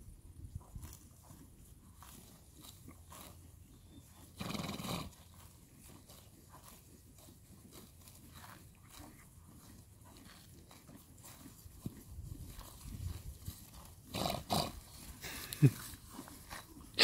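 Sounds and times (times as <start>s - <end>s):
horses cropping grass: 0.0s - 17.0s.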